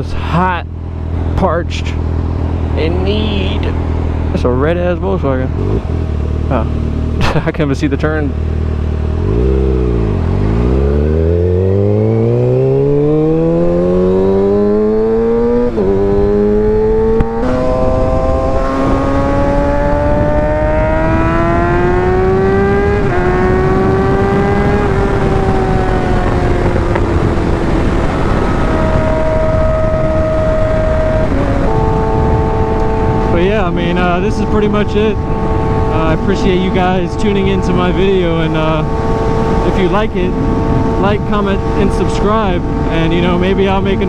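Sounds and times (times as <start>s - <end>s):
motorcycle engine accelerating: 0.0s - 44.0s
wind rushing over microphone: 8.6s - 44.0s.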